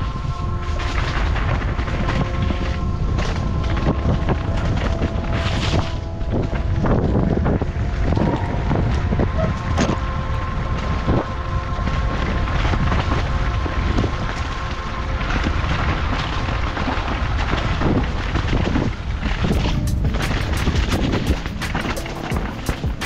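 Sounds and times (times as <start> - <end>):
mountain bike rattling: 0.0 - 23.0
wind buffeting microphone: 0.0 - 23.0.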